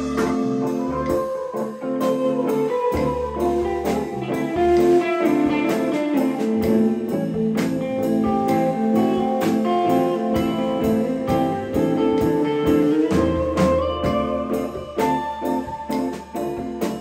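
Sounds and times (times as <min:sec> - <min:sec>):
guitar: 0:00.0 - 0:17.0
live band music: 0:00.0 - 0:17.0.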